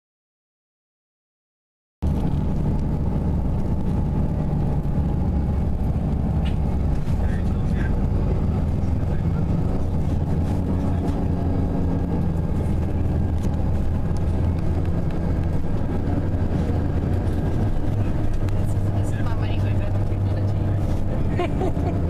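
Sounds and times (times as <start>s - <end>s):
bus engine and road noise: 2.0s - 22.0s.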